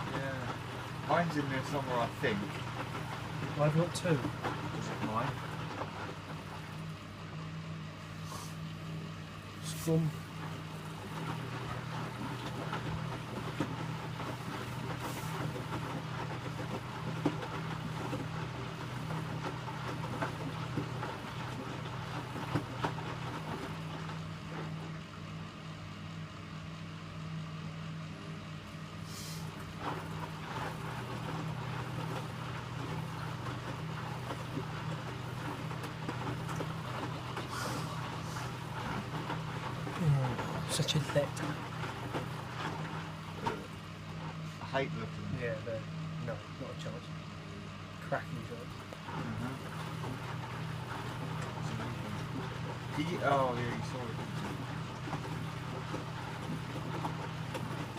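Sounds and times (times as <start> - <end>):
washing machine motor hum: 0.0 - 57.9.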